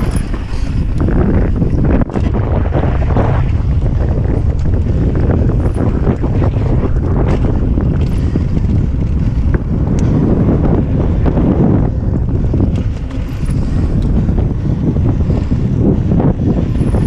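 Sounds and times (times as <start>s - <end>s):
bike knocking and rattling: 0.0s - 17.0s
wind buffeting microphone: 0.0s - 17.0s.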